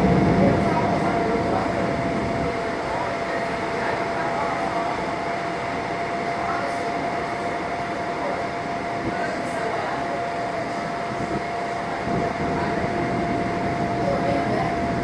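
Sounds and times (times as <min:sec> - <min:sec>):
thin steady whine: 0:00.0 - 0:15.0
train wheels rumbling on rails: 0:00.0 - 0:15.0.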